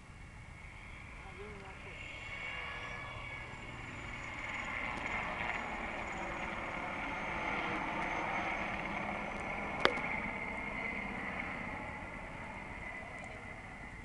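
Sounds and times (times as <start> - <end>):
helicopter rotor and engine noise: 0.0 - 14.0.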